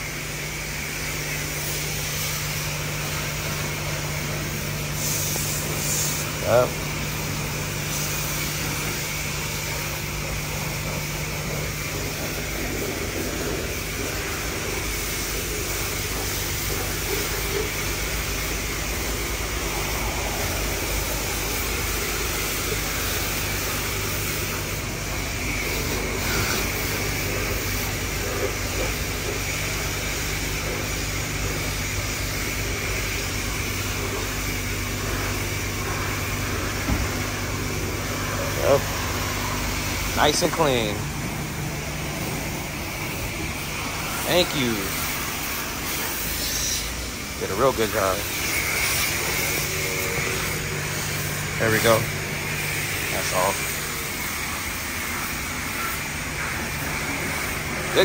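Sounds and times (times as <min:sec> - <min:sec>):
steady mechanical hum: 0:00.0 - 0:58.0
even hiss: 0:00.1 - 0:58.0.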